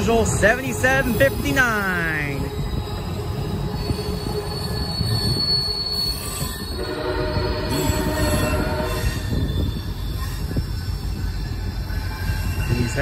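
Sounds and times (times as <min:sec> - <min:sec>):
train cars rumbling on rails: 0:00.0 - 0:13.0
train wheels squealing: 0:00.0 - 0:13.0.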